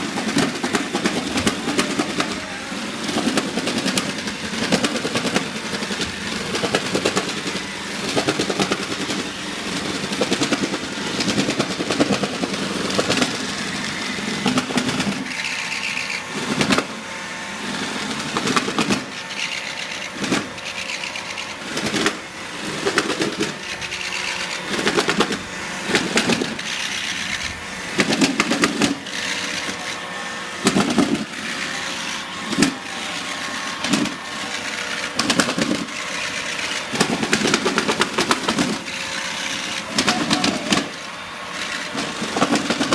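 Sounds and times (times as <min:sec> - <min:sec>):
robot vacuum motors whirring: 0:00.0 - 0:42.9.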